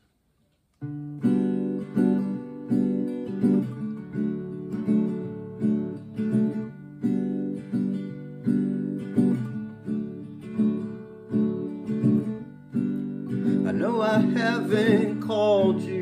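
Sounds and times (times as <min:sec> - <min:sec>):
acoustic guitar chords: 0:00.8 - 0:16.0.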